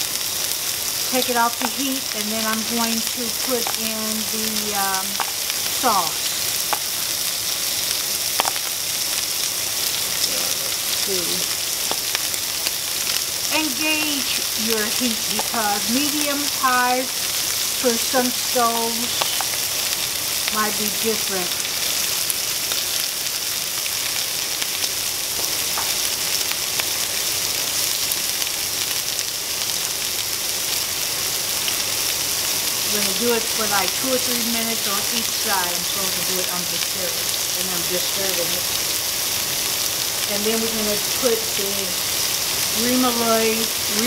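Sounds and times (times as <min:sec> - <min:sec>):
oil popping and crackling: 0:00.0 - 0:44.0
shrimp sizzling in oil: 0:00.0 - 0:44.0.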